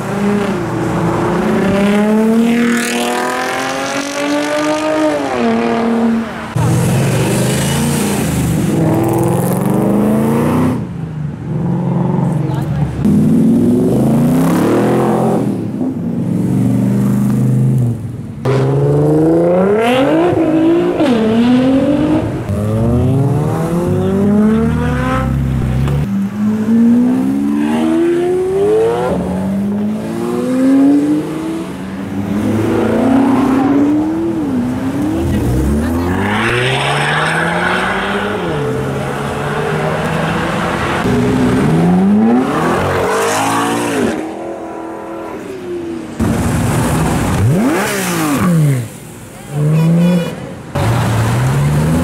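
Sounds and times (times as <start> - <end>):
sports car engines revving: 0.0 - 52.0.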